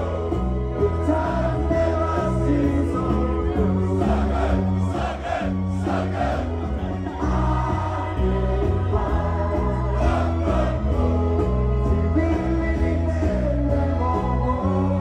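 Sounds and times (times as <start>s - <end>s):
crowd singing together: 0.0s - 15.0s
music over loudspeakers: 0.0s - 15.0s.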